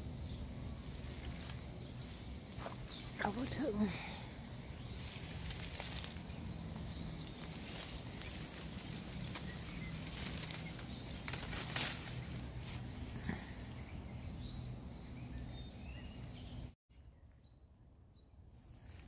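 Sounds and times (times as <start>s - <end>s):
leaves and stems rustling: 0.0s - 16.6s.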